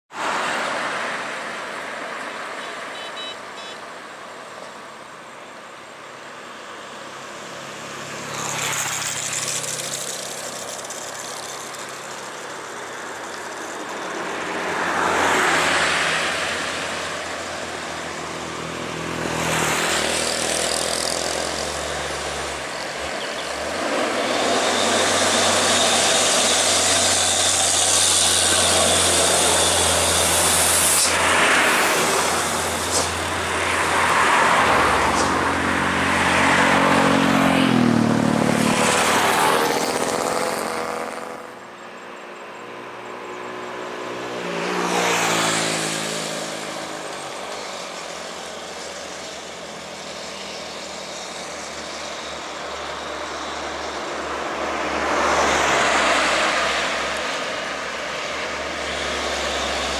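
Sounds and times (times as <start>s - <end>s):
vehicles passing on highway: 0.0s - 59.9s
truck passing close: 7.5s - 41.9s, 42.9s - 59.9s.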